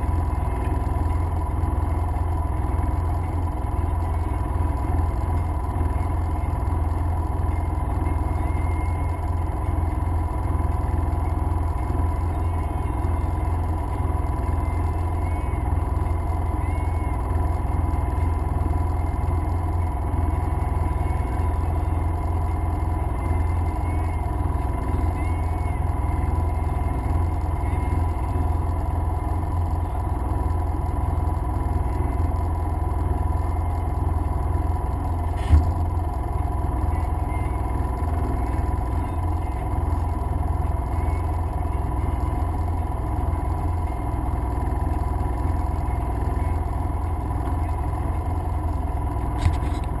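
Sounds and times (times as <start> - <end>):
vehicle engine idling: 0.0 - 50.0.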